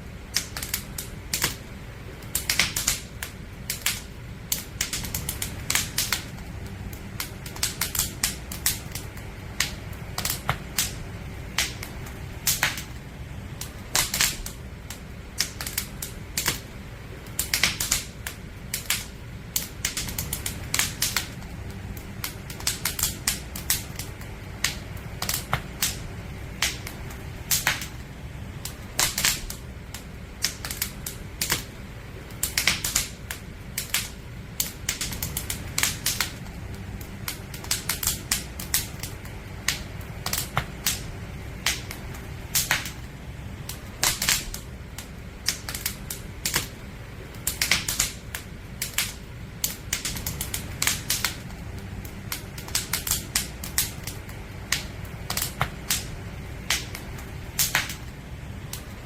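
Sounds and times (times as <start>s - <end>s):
campfire crackling and popping: 0.0s - 59.0s
low rumble: 0.0s - 59.0s.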